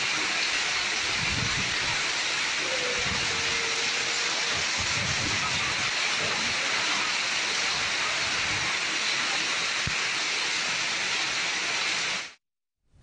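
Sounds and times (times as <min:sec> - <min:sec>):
hail and rain on pavement: 0:00.0 - 0:12.4.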